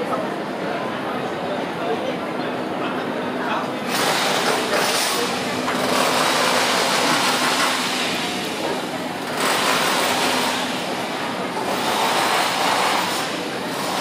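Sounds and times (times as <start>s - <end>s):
murmur of voices: 0.0s - 14.0s.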